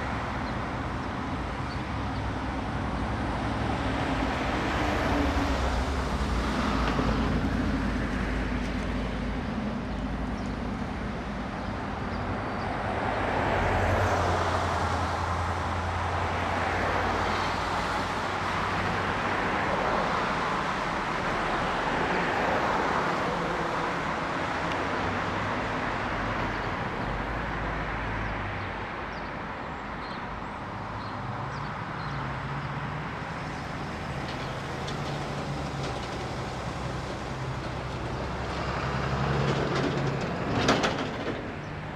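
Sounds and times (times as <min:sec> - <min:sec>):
passing vehicles: 0:00.0 - 0:41.9.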